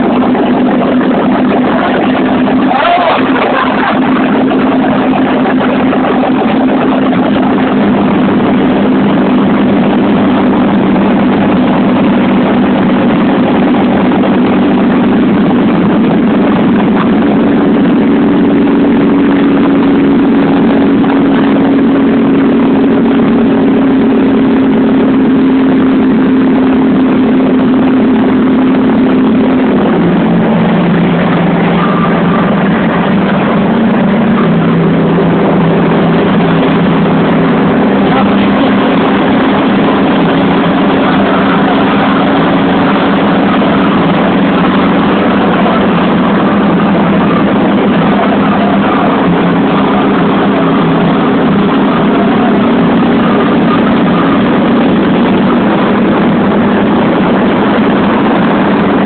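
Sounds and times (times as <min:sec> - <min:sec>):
road and wind noise: 0:00.0 - 0:59.0
vehicle engine droning: 0:00.0 - 0:59.0.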